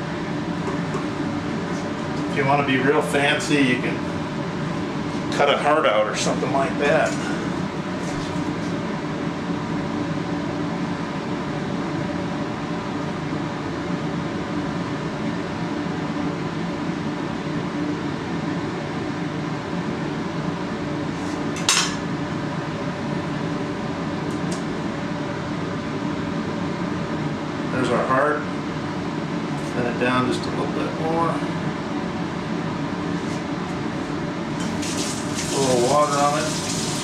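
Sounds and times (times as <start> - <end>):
steady room hum: 0.0 - 37.0.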